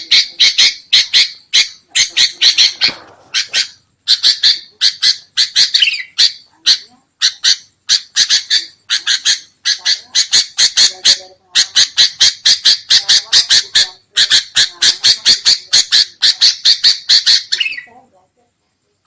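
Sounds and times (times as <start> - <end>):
bulbul harsh chattering calls: 0.0 - 18.0.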